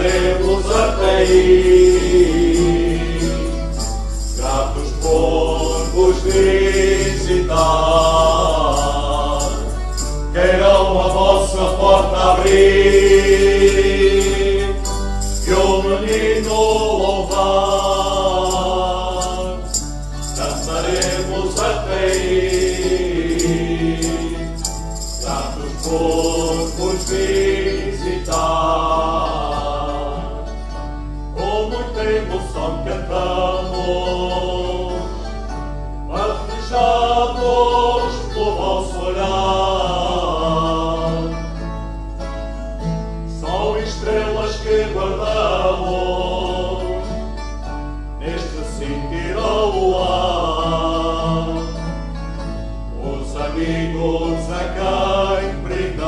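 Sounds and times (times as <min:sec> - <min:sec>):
men singing together: 0:00.0 - 0:30.5, 0:31.4 - 0:35.3, 0:36.1 - 0:41.6, 0:43.4 - 0:47.2, 0:48.2 - 0:51.9, 0:52.9 - 0:56.0
guitar accompaniment: 0:00.0 - 0:56.0.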